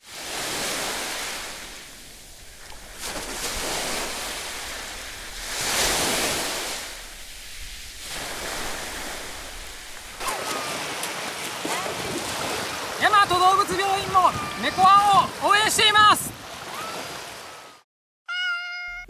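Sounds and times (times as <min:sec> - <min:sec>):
sea waves washing onto beach: 0:00.0 - 0:17.8.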